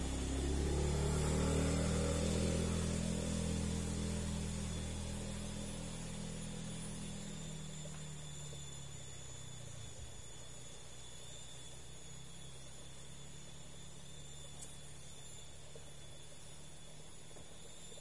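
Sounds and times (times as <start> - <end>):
faint steady hiss: 0.0 - 18.0
thin high tone: 0.0 - 18.0
vehicle engine hum: 0.0 - 18.0.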